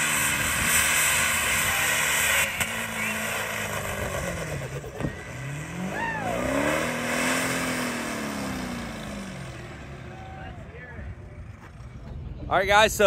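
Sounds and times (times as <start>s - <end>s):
diesel engine revving: 0.0s - 12.3s.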